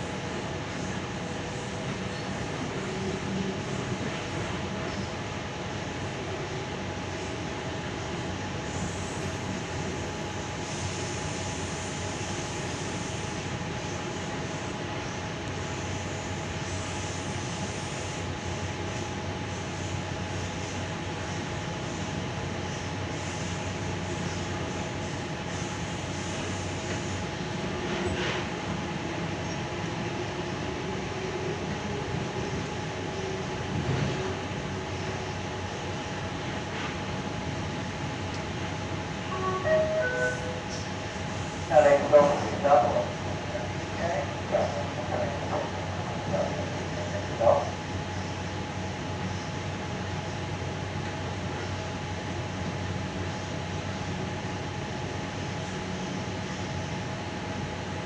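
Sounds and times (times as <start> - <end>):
train hum: 0.0 - 58.0
train wheels rumbling on rail: 0.0 - 58.0.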